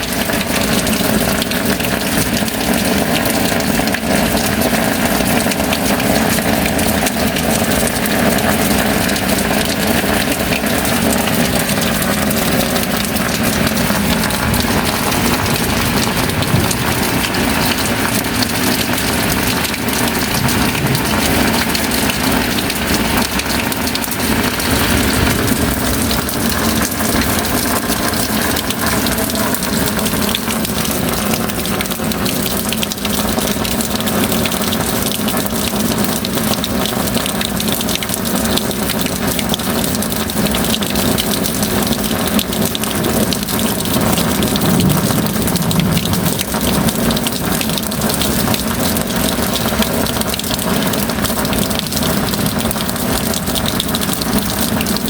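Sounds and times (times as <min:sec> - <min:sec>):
heavy rain downpour: 0:00.0 - 0:55.0
rushing water: 0:00.0 - 0:55.0.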